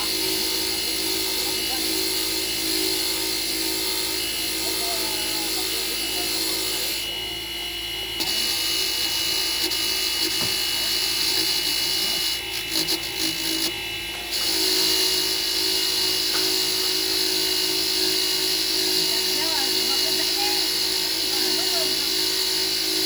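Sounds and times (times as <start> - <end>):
power tool whining: 0.0 - 23.0.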